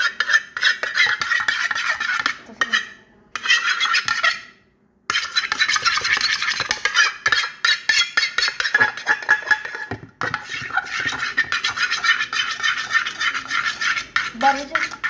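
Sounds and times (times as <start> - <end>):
spoon stirring slime: 0.0 - 15.0.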